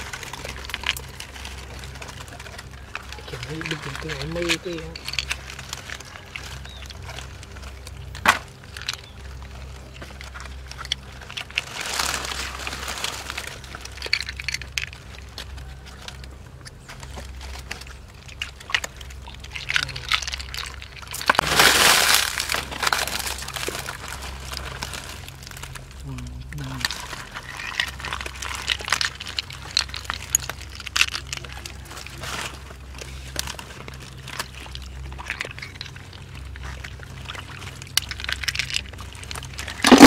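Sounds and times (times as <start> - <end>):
water and mud sloshing: 0.0 - 16.3, 17.0 - 40.0
steady low hum: 0.0 - 40.0.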